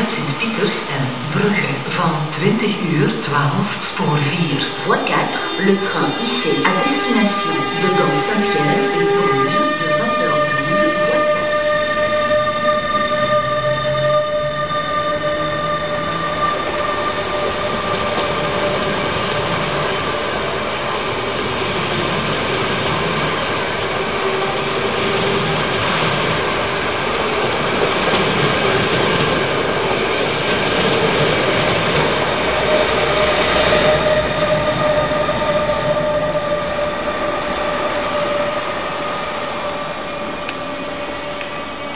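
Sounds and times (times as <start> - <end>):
train wheels on rail: 0.0 - 41.9.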